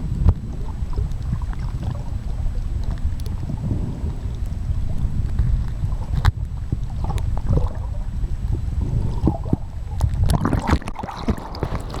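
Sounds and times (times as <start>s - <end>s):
low rumble: 0.0s - 10.4s
water sloshing and gurgling: 0.0s - 12.0s.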